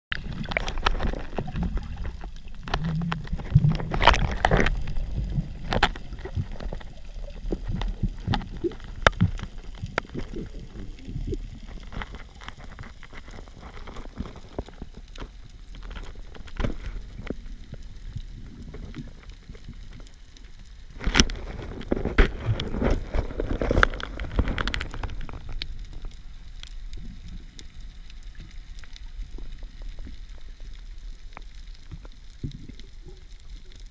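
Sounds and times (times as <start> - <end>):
muffled underwater rumble: 0.1 - 33.9
underwater clicks knocks and gurgles: 0.1 - 33.9.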